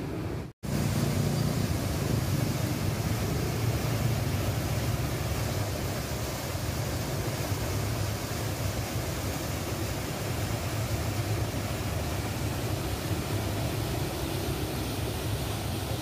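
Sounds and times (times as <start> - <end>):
river water rushing over rocks: 0.7 - 16.0.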